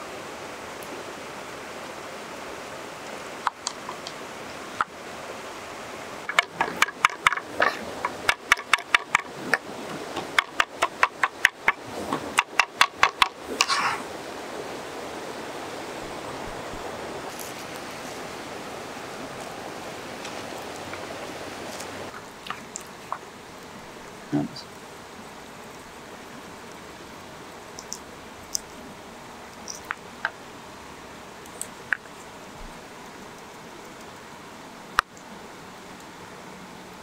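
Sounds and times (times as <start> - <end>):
river rushing: 0.0 - 32.5.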